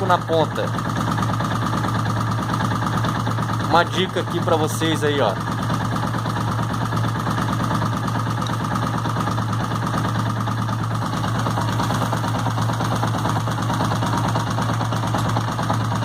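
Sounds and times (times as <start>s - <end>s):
motorcycle engine idling: 0.0s - 16.0s
rapid engine ticking: 0.0s - 16.0s.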